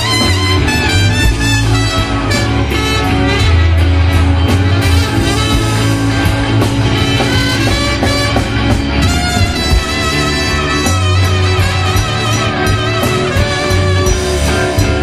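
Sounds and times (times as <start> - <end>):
blues-rock band jamming: 0.0 - 15.0
horn section playing: 0.0 - 15.0.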